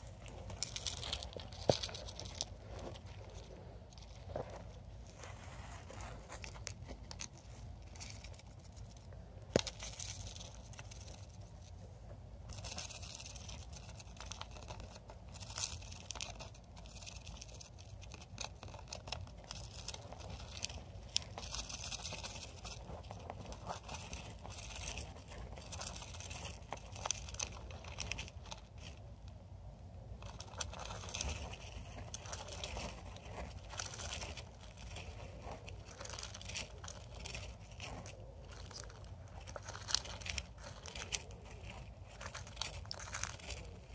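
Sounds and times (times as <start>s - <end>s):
rodent rustling in bedding: 0.0s - 11.8s, 12.4s - 29.0s, 30.2s - 43.9s.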